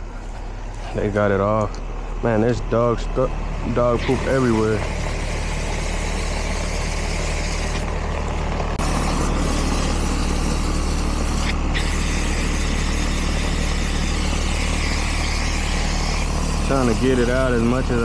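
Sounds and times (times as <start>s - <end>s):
air conditioning unit humming: 0.0s - 18.0s.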